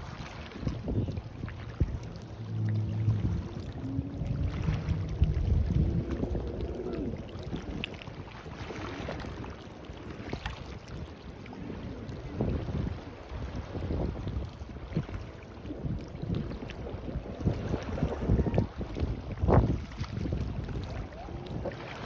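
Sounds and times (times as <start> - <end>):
boat engine running: 0.0 - 22.0
waves at the shore: 0.0 - 22.0
wind buffeting microphone: 0.0 - 22.0.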